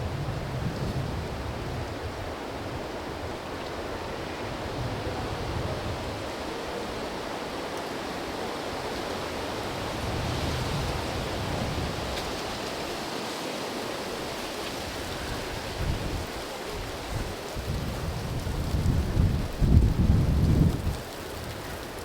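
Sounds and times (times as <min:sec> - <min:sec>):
wind buffeting microphone: 0:00.0 - 0:22.0
wind rushing through trees: 0:00.0 - 0:22.0.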